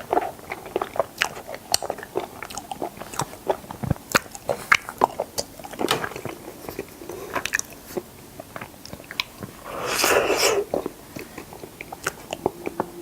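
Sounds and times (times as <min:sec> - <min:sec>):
chewing and biting: 0:00.0 - 0:12.9.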